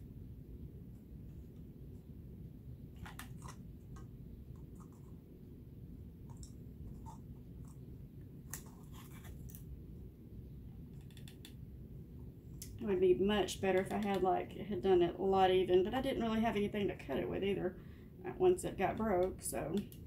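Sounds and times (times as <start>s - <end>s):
low room rumble: 0.0s - 20.0s.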